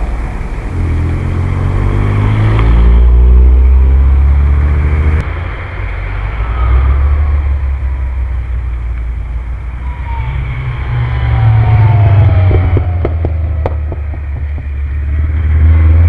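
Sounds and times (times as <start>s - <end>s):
small car engines driving past: 0.0s - 16.0s.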